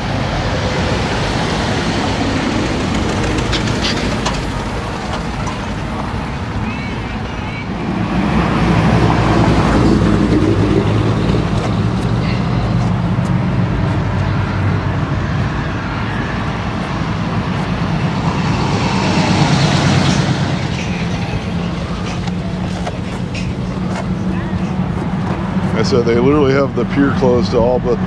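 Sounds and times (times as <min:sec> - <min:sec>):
old car engines driving past: 0:00.0 - 0:28.0.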